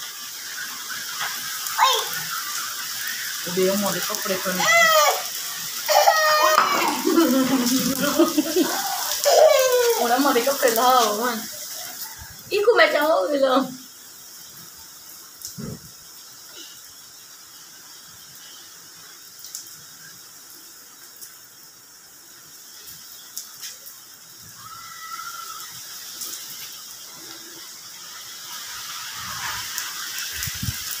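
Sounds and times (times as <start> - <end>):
rain on pavement: 0.0 - 31.0.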